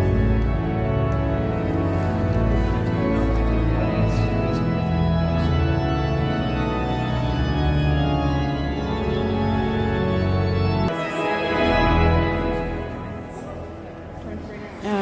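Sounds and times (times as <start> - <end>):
pipe organ playing chords: 0.0 - 14.4.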